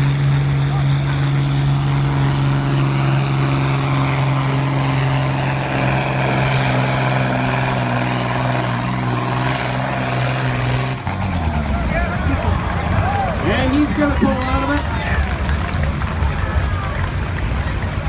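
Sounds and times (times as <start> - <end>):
tractor diesel engine at high revs: 0.0 - 18.0.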